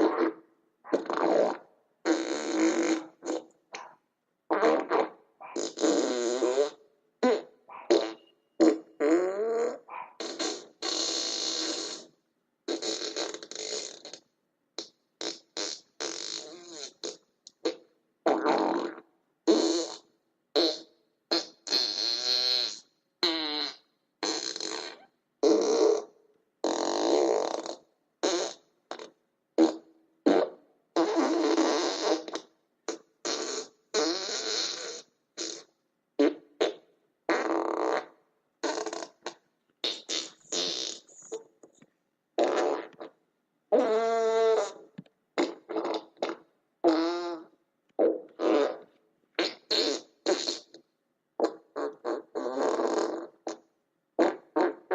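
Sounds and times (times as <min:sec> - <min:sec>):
buzzy fart-like blasts: 0:00.0 - 0:14.2, 0:14.8 - 0:41.8, 0:42.4 - 0:50.8, 0:51.4 - 0:53.6, 0:54.2 - 0:54.9.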